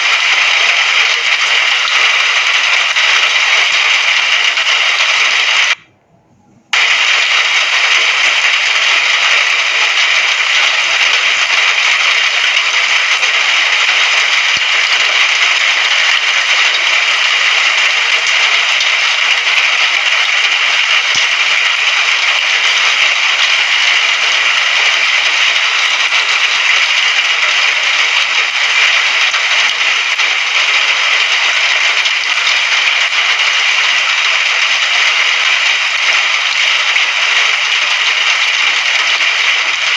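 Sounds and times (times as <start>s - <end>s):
rain falling: 0.0s - 5.8s, 6.7s - 39.9s.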